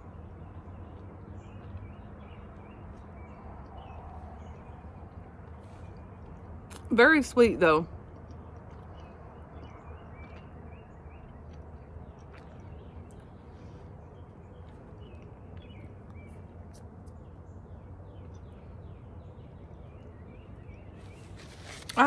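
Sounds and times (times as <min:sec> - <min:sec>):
low background hum: 0:00.0 - 0:22.0
small birds chirping: 0:00.0 - 0:22.0.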